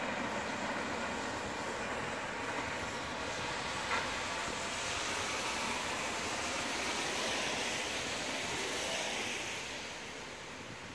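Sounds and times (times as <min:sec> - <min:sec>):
train wheels hissing on rails: 0:00.0 - 0:10.9.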